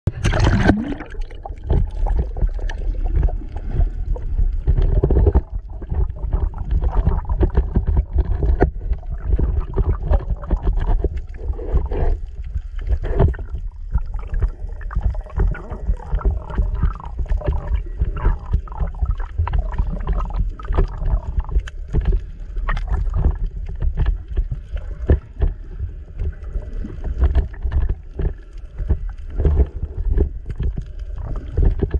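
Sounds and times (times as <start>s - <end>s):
muffled underwater rumble: 0.1s - 31.9s
underwater clicks and gurgles: 0.1s - 31.9s.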